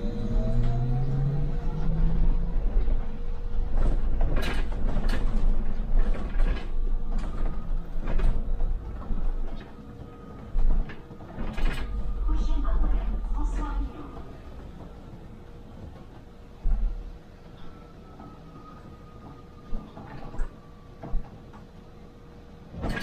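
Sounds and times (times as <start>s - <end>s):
steady whine: 0.0s - 22.7s
bus engine rumble: 0.0s - 23.0s.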